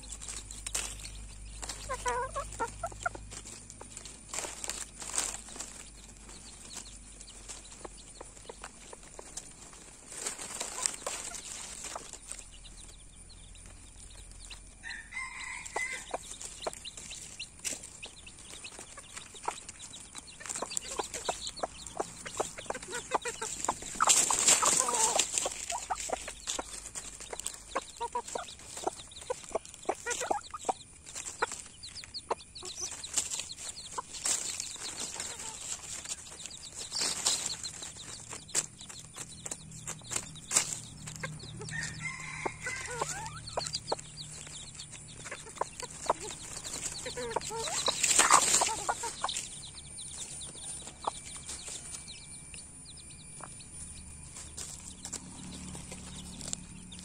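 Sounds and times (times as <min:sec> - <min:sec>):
dry leaves crackling and rustling: 0:00.0 - 0:52.5, 0:53.8 - 0:57.0
chickens clucking: 0:00.0 - 0:57.0.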